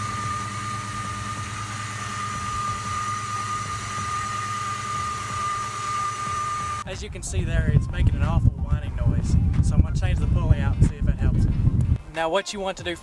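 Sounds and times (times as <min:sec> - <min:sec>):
high-pitched belt whine: 0:00.0 - 0:12.0.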